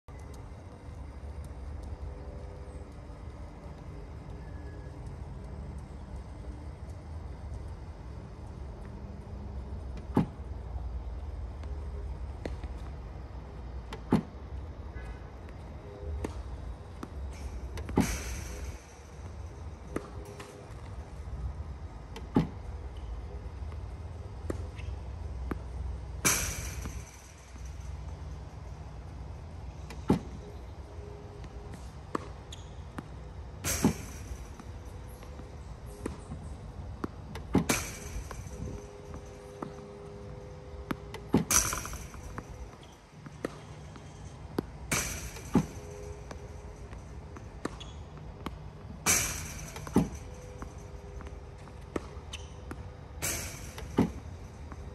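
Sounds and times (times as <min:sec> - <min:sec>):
ball machine humming: 0:00.1 - 0:54.9
tennis balls shot with knocks: 0:06.3 - 0:54.9.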